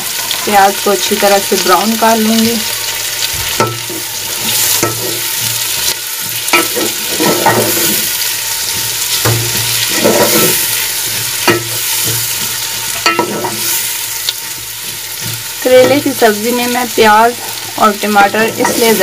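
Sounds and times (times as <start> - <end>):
onions sizzling in oil: 0.0 - 19.0
wooden spoon scraping metal pot: 3.0 - 19.0.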